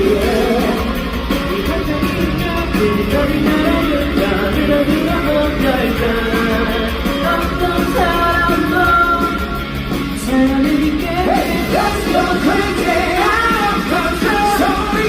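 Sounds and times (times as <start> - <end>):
man singing lead vocal: 0.0 - 15.0
rock band playing live: 0.0 - 15.0.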